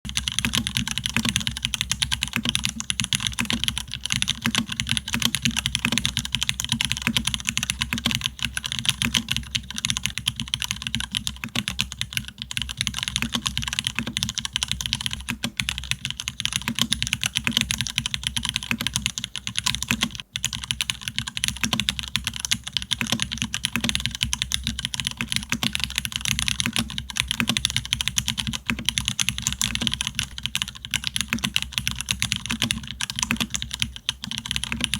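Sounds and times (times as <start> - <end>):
fast mechanical keyboard typing: 0.1 - 34.9.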